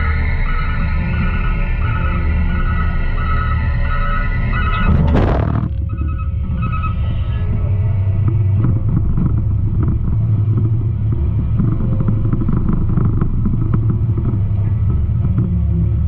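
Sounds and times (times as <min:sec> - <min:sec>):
garbage truck engine rumbling: 0:00.0 - 0:16.0.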